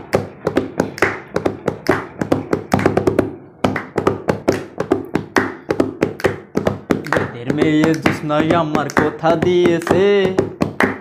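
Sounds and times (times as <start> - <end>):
hands drumming on plastic stool: 0.0 - 11.0.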